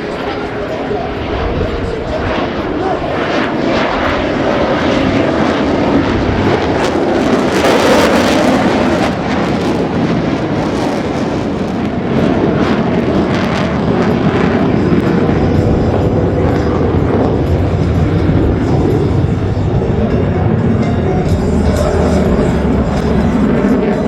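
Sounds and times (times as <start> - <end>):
fighter jet engine noise: 0.0 - 24.0.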